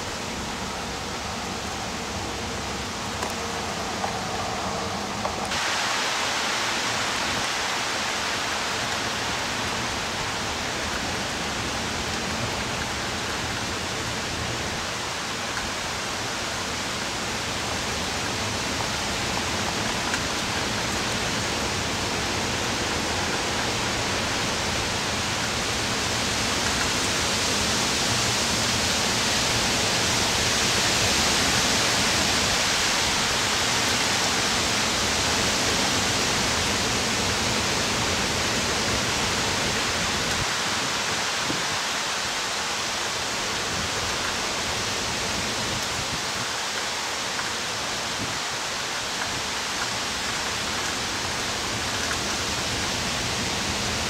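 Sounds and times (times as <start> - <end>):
heavy rain and wind hiss: 0.0 - 54.0.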